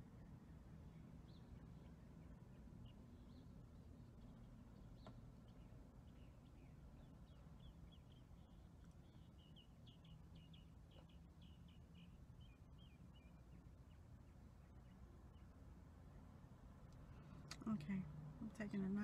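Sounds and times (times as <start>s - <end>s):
bird chirping: 0.0s - 16.2s
faint low rumble: 0.0s - 19.0s.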